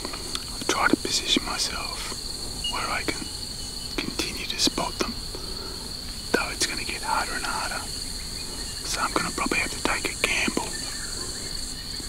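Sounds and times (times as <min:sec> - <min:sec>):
man whispering: 0:00.0 - 0:03.3, 0:04.0 - 0:07.9, 0:08.8 - 0:11.4
high-pitched insect drone: 0:00.0 - 0:12.0.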